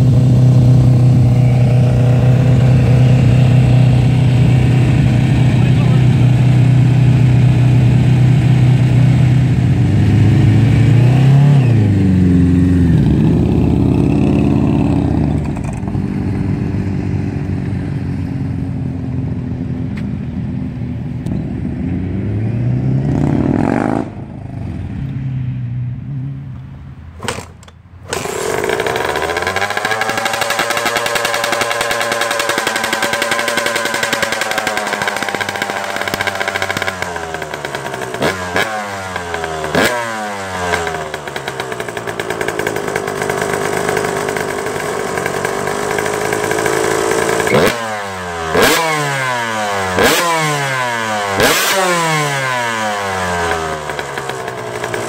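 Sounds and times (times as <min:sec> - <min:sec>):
dirt bike engine running: 0:00.0 - 0:18.0, 0:27.2 - 0:55.0
motorcycles pulling away: 0:00.0 - 0:26.5, 0:27.2 - 0:55.0.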